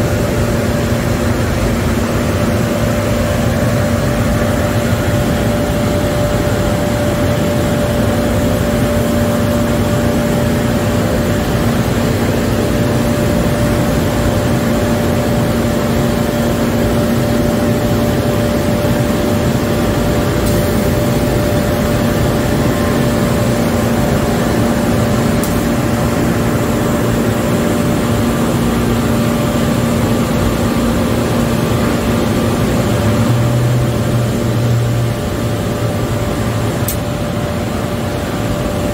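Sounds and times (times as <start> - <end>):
car wash machinery humming: 0.0 - 38.9.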